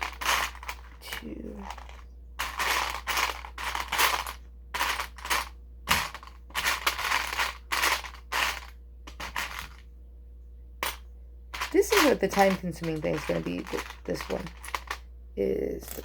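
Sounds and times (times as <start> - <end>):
plastic toy bricks rattling: 0.0 - 9.8, 11.6 - 15.0.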